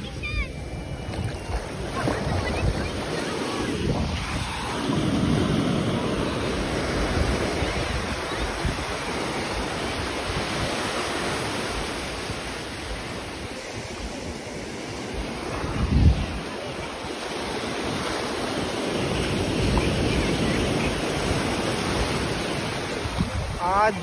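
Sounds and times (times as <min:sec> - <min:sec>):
ocean surf breaking: 0:00.0 - 0:24.0
wind rumbling on microphone: 0:00.0 - 0:24.0.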